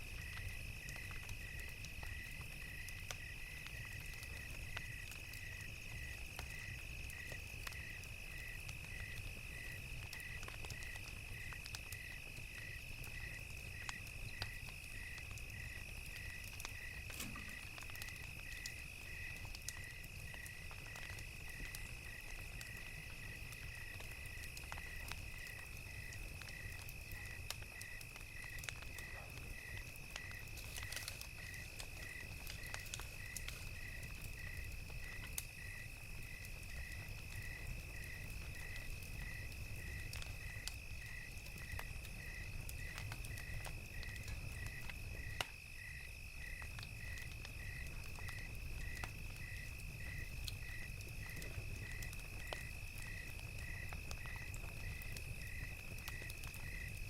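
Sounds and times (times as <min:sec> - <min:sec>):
campfire crackling: 0:00.0 - 0:57.0
insects trilling: 0:00.1 - 0:57.0.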